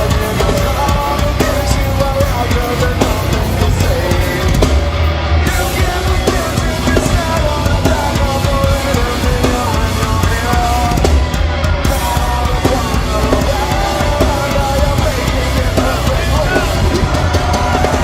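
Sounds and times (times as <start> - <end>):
bass drum and drum hits: 0.0 - 18.0
heavy metal band playing live: 0.0 - 18.0.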